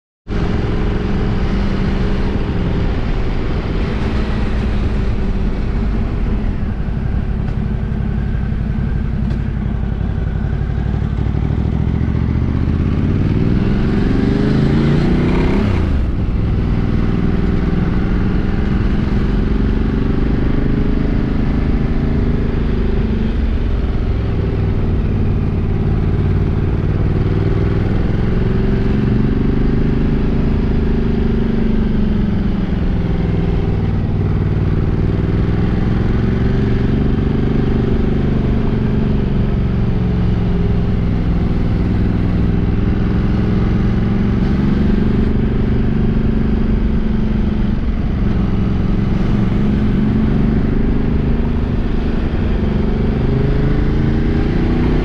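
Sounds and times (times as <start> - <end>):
motorcycle engine revving: 0.3 - 55.0.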